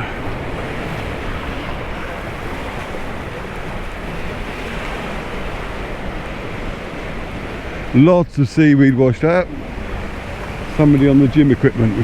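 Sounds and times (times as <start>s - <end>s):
sea surf breaking: 0.0s - 12.0s
wind buffeting microphone: 0.0s - 12.0s.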